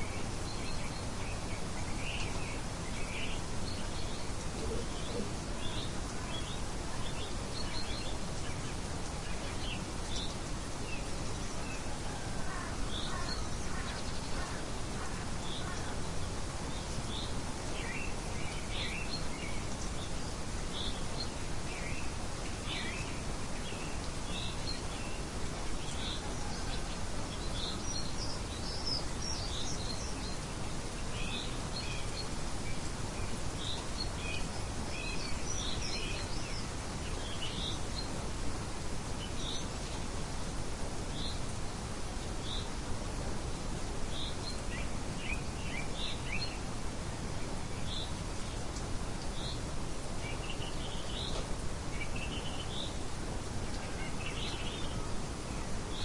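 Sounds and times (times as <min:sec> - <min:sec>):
small birds chirping: 0:00.0 - 0:56.0
steady rain hiss: 0:00.0 - 0:56.0.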